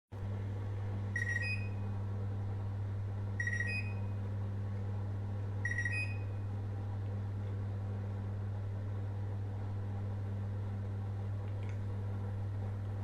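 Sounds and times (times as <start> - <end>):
microwave oven humming: 0.2 - 13.0.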